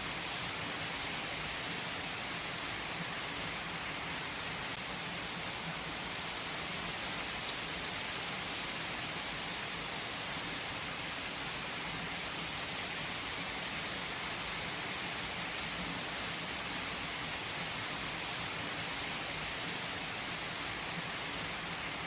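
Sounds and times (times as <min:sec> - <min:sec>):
heavy rain on foliage: 0:00.0 - 0:22.0.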